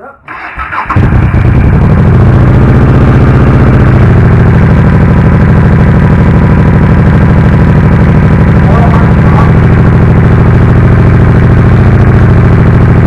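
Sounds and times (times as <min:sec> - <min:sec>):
motorcycle engine idling: 0:00.3 - 0:13.0.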